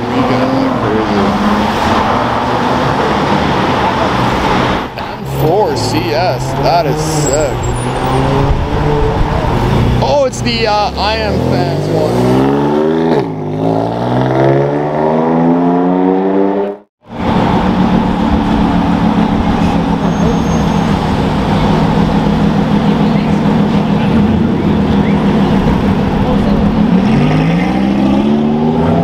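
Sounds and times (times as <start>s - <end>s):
car engine accelerating: 0.0s - 29.0s
car engine low-rev drone: 0.0s - 29.0s.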